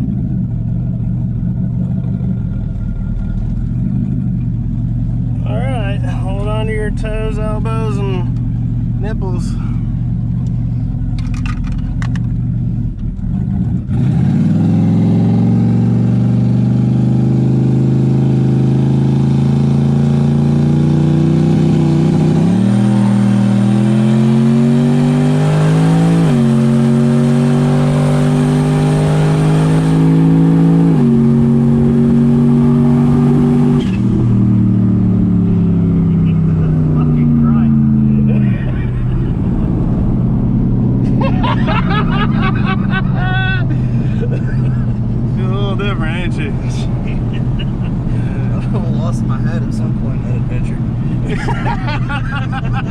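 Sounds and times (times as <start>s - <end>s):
truck engine accelerating hard: 0.0s - 52.9s.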